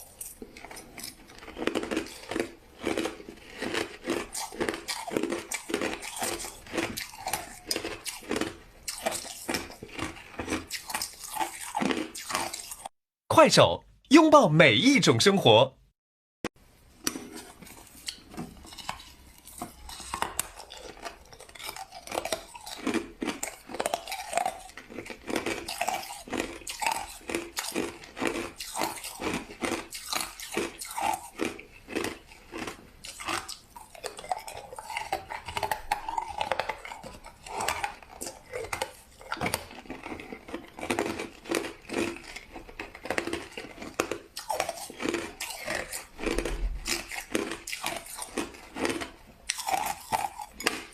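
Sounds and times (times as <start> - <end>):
chewing crushed ice: 0.0 - 13.0, 17.0 - 50.9.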